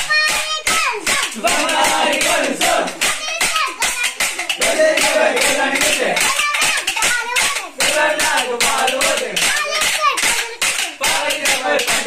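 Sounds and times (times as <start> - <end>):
boys chanting and shouting: 0.0 - 12.0
wooden sticks clacking: 0.0 - 12.0.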